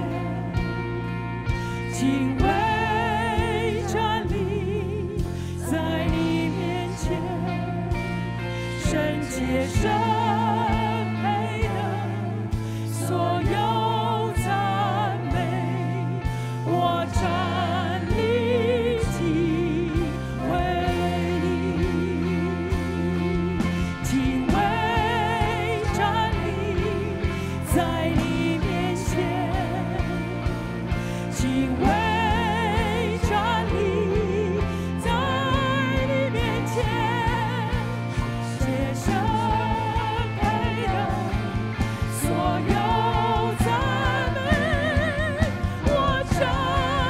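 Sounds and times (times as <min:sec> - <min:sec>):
bass guitar: 0:00.0 - 0:47.0
drum kit: 0:00.0 - 0:47.0
electric guitar: 0:00.0 - 0:47.0
live worship band: 0:00.0 - 0:47.0
people singing: 0:00.0 - 0:47.0.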